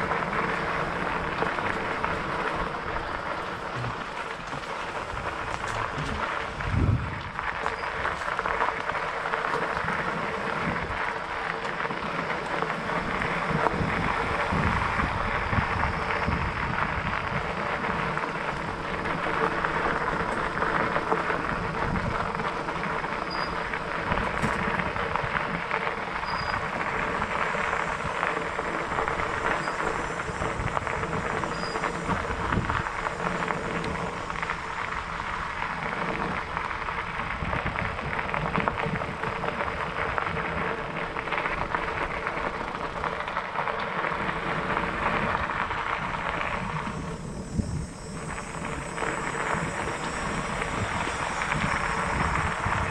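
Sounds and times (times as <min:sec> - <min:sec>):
bike tyres rolling on gravel: 0:00.0 - 0:52.9
wind rumbling on microphone: 0:00.0 - 0:52.9.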